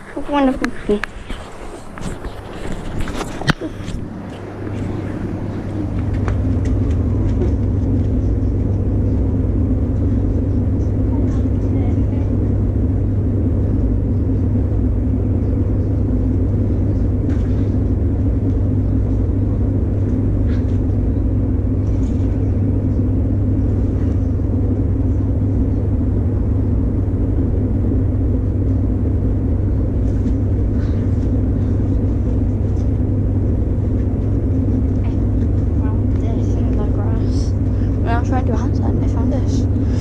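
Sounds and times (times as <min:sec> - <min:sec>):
low rumble with constant hum: 0:00.0 - 0:40.0.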